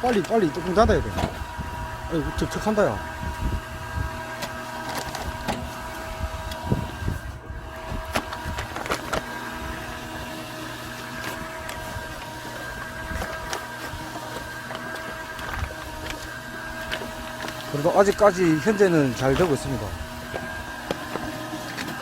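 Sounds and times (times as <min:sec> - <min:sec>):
mix grinding clicks and scrapes: 0:00.0 - 0:00.9, 0:04.2 - 0:07.0, 0:08.0 - 0:22.0
electric gear motor whine: 0:00.0 - 0:22.0.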